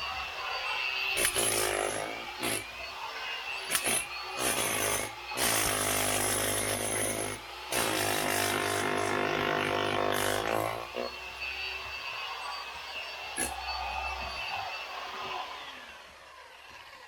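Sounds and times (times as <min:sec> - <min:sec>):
electric power tool running: 0:00.1 - 0:17.0.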